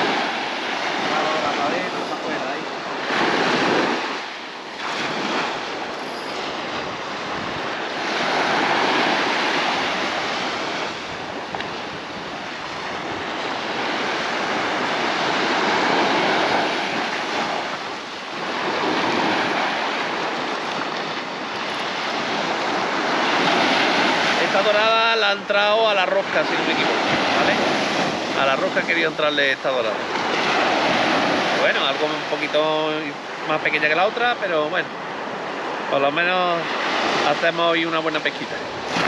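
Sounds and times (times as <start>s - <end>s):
surf washing up a beach: 0.0s - 39.0s.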